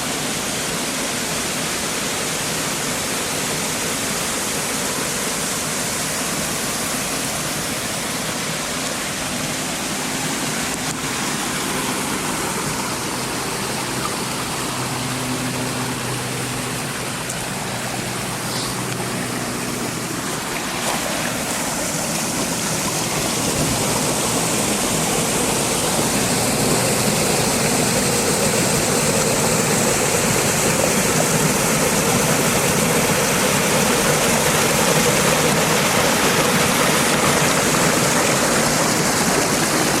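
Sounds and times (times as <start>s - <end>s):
cascading water rushing: 0.0s - 40.0s.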